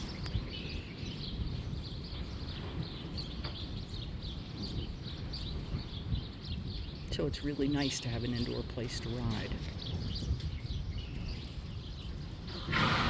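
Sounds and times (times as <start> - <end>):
small birds chirping: 0.0 - 13.0
strong wind rumble: 0.0 - 13.0.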